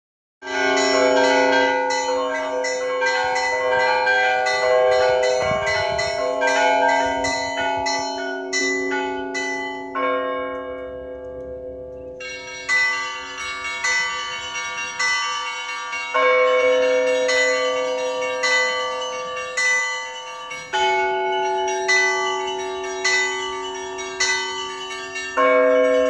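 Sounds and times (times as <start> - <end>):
large bells ringing: 0.4 - 26.0
small bells striking rapidly: 0.6 - 10.1, 12.2 - 26.0.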